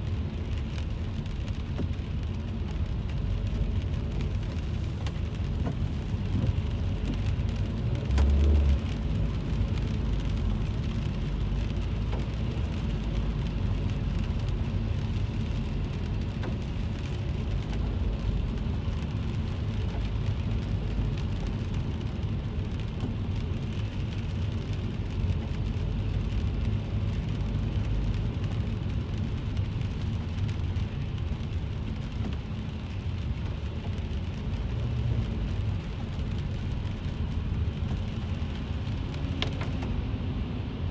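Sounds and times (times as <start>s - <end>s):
car driving rumble: 0.0s - 40.9s
rain on car roof: 0.0s - 40.9s.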